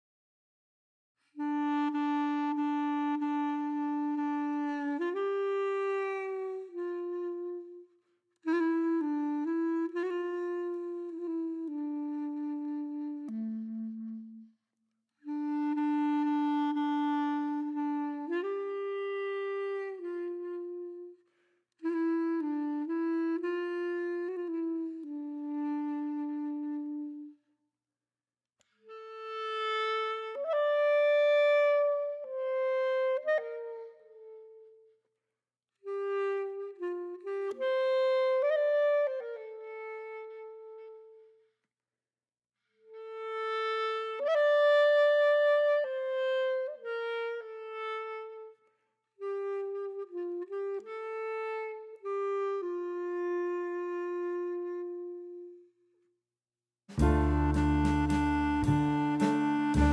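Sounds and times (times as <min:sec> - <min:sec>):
slow solo woodwind melody: 0:01.2 - 0:27.6, 0:28.6 - 0:35.1, 0:35.8 - 0:41.5, 0:42.7 - 0:56.1, 0:56.9 - 0:59.9.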